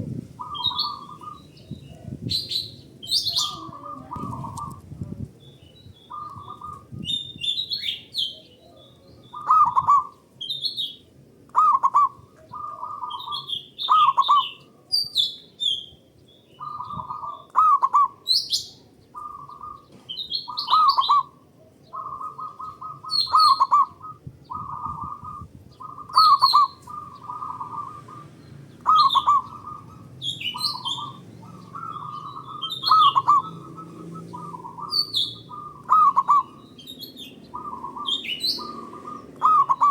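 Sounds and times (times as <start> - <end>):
doves cooing: 0.0 - 5.2, 5.9 - 15.3, 16.6 - 39.9
small birds chirping: 0.0 - 39.9.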